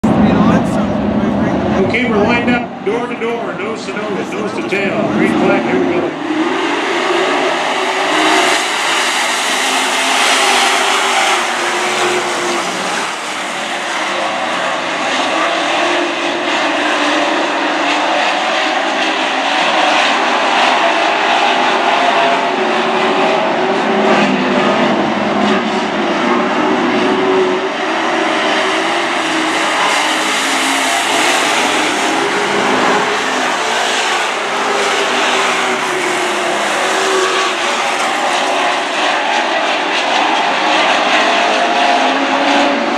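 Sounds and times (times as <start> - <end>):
race truck engines roaring: 0.0 - 42.9.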